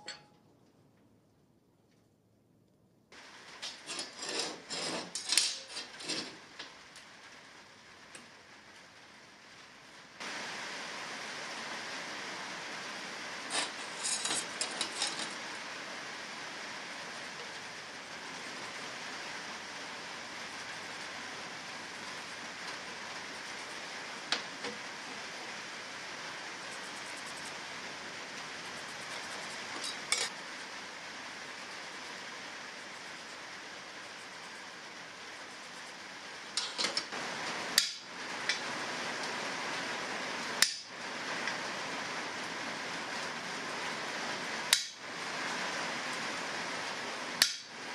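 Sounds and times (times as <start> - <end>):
rushing workshop noise: 3.2 - 47.9.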